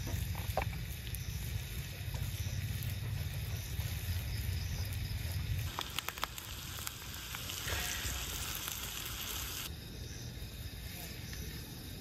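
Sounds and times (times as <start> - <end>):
food sizzling in a pan: 0.0 - 9.7.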